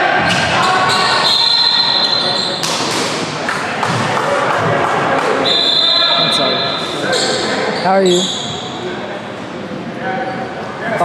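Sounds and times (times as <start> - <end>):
murmur of crowd voices: 0.0 - 11.0.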